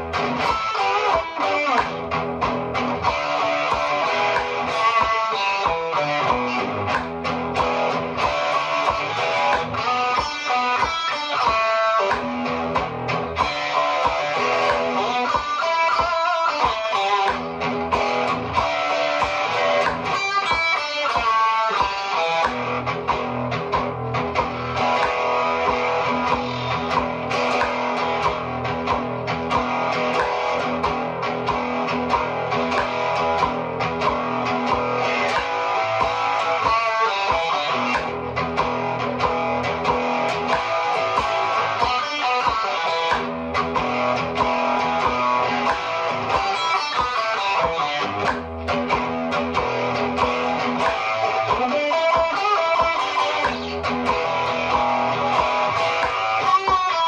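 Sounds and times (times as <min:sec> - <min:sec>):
electric guitar playing rock: 0:00.0 - 0:57.0.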